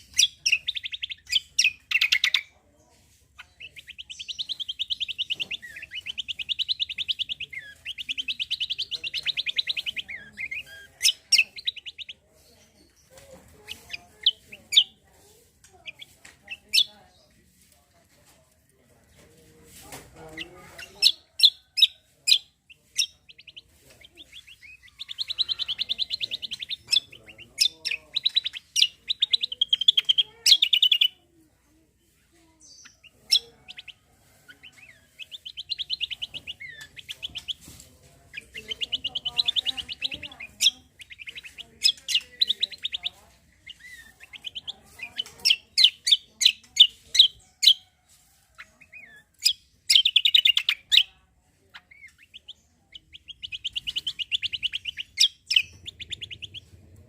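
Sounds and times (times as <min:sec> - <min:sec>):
songbirds singing buzzy trills: 0:00.0 - 0:02.6, 0:03.3 - 0:17.4, 0:20.0 - 0:31.2, 0:32.1 - 0:47.9, 0:48.6 - 0:57.0.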